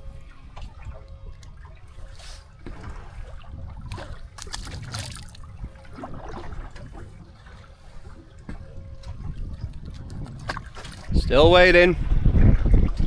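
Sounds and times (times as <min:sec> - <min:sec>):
steady low rumble: 0:00.0 - 0:13.0
water lapping against boat hull: 0:00.0 - 0:13.0.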